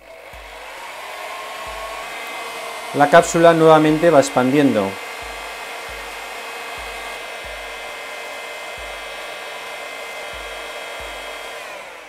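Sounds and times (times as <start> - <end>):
high fan whine: 0.0 - 12.0
hot air gun blowing: 0.0 - 12.0.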